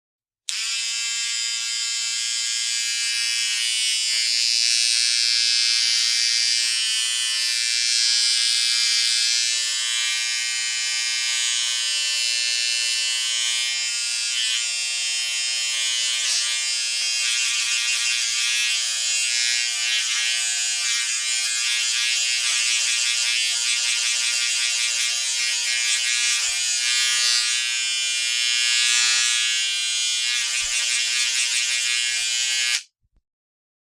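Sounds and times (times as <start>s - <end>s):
electric shaver buzzing: 0.5s - 33.0s.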